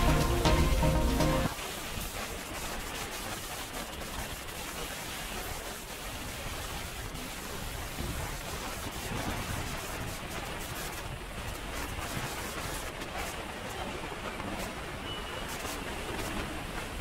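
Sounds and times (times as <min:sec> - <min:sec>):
heavy rain on wet pavement: 0:00.0 - 0:17.0.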